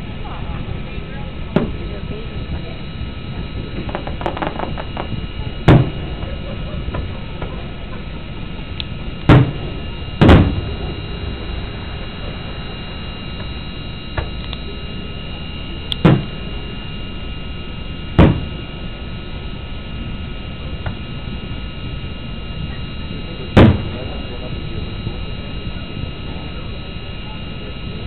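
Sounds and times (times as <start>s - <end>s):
steady hum: 0.0s - 28.0s
fireworks booming: 0.1s - 28.0s.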